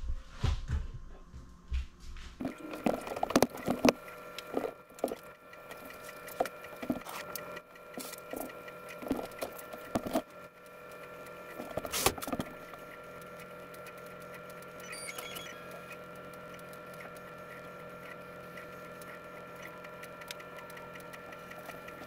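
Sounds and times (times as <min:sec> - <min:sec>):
mechanism clicks and taps: 0:02.4 - 0:22.0
stepper motors whining: 0:02.4 - 0:22.0.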